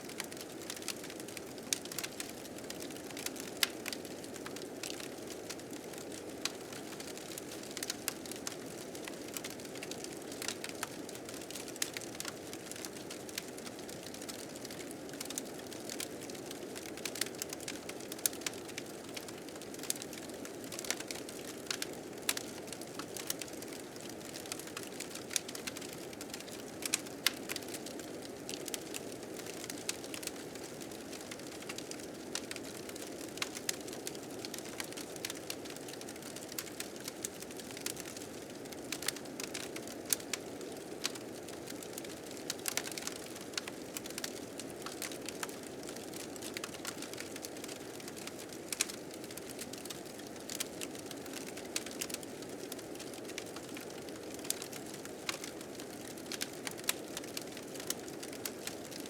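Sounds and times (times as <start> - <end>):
wood fire crackling and popping: 0.1 - 59.0.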